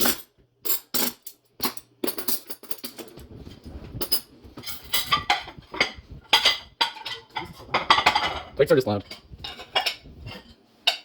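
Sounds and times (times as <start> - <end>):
plates and cutlery clattering: 0.0 - 11.0.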